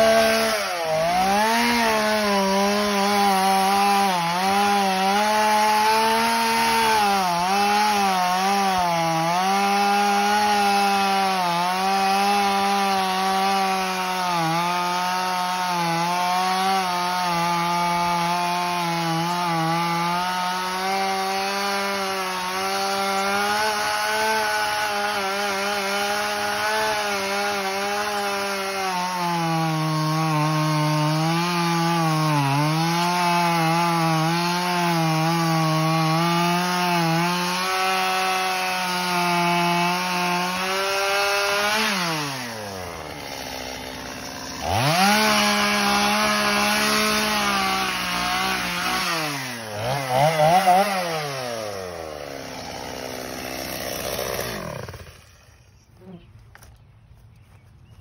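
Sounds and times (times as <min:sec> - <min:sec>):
chainsaw cutting through log: 0:00.0 - 0:56.7.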